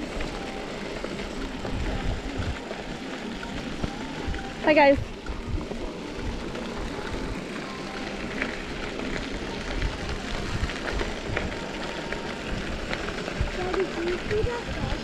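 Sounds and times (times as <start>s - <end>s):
bicycle tyres rolling on dirt: 0.0s - 15.0s
wind rumbling on microphone: 0.0s - 15.0s.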